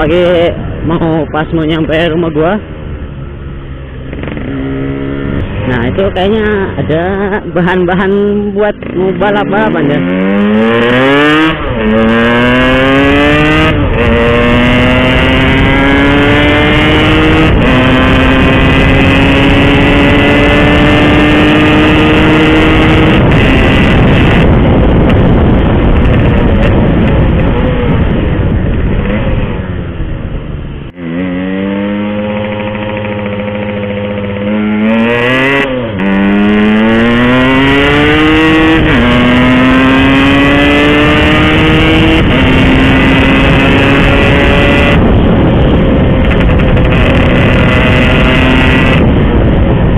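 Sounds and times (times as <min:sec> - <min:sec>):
two-stroke motorcycle accelerating: 0:00.0 - 0:49.9.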